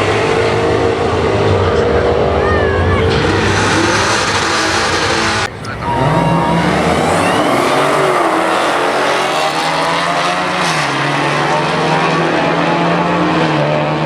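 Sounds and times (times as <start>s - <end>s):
drag car engines running: 0.0s - 14.0s.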